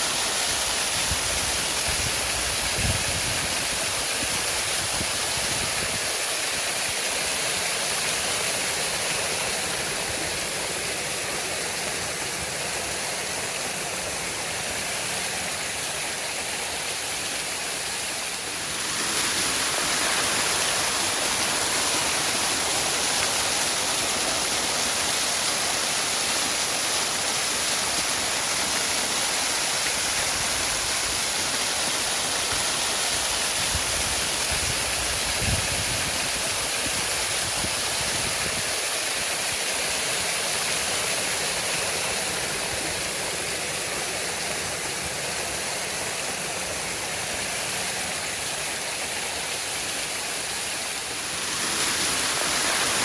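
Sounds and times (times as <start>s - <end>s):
waterfall rushing and splashing: 0.0s - 53.0s.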